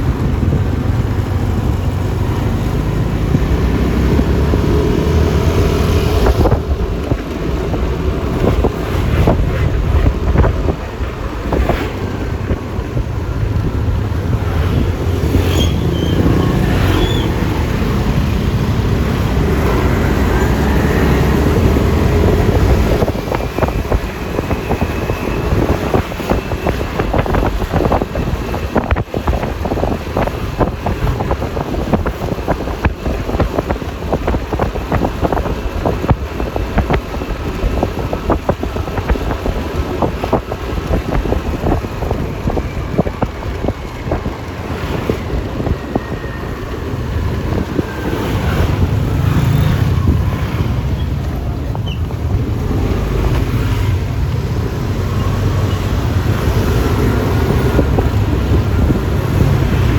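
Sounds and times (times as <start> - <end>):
passing traffic: 0.0 - 59.9
scooter engine and tyre noise: 0.0 - 59.9
wind buffeting microphone: 0.0 - 59.9.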